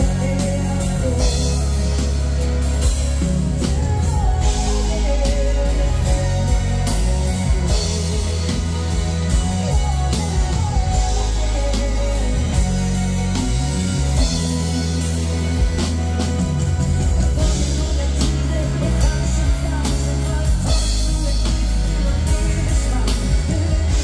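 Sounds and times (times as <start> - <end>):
drum kit beat: 0.0 - 24.0
electric bass: 0.0 - 24.0
keyboards: 0.0 - 24.0
woman singing lead: 0.0 - 24.0.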